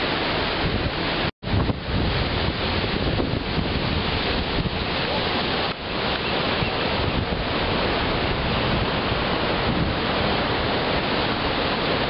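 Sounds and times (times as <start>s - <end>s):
surf washing over rocks: 0.0s - 12.0s
wind on microphone: 0.0s - 12.0s.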